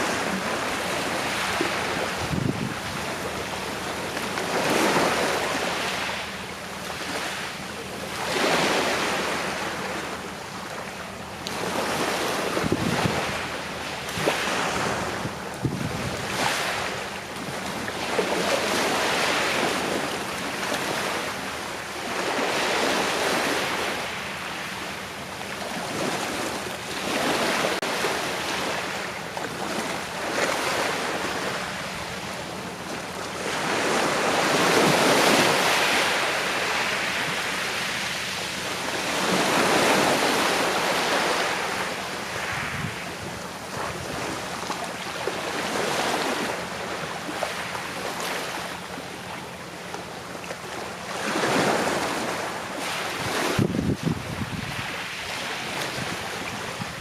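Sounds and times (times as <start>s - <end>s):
sea waves washing ashore: 0.0s - 57.0s.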